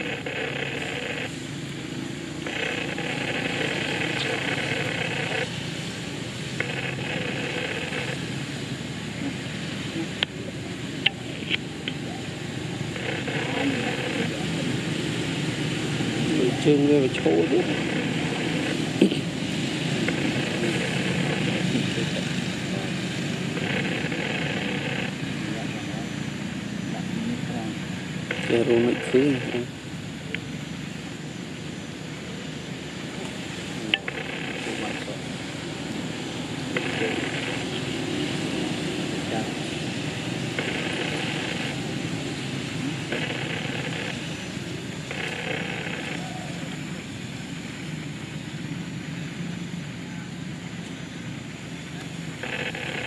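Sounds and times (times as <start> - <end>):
low engine-like rumble: 0.0 - 53.0
steady high hiss: 0.0 - 53.0.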